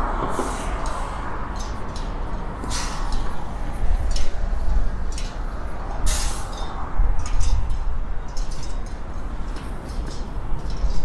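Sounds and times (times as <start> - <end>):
low rumble of passing vehicles: 0.0 - 11.0.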